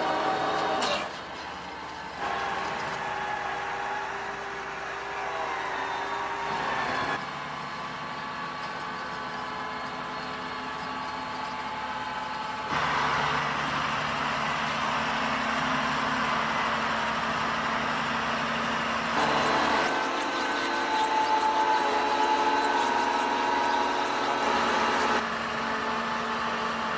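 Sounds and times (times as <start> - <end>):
farm machinery engines droning: 0.0 - 26.9.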